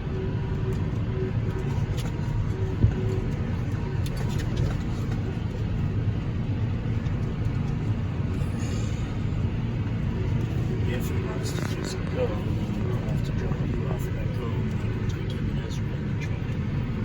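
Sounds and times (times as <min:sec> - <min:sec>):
tractor engine rumbling: 0:00.1 - 0:17.0.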